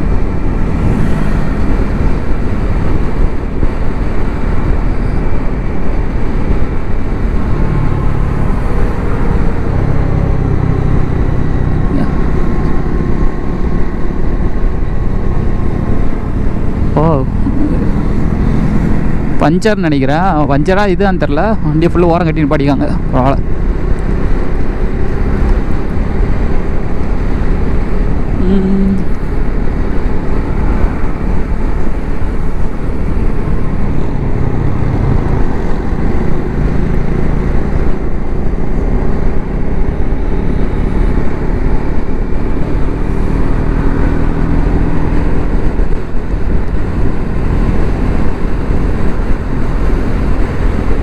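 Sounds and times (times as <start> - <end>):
motorcycle engine cruising: 0.0 - 51.0
wind rush over microphone: 0.0 - 51.0.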